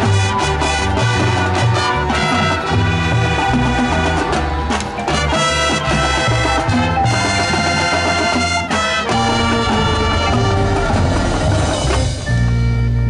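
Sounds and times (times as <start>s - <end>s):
brass chords: 0.0s - 13.0s
drum accents: 0.0s - 13.0s.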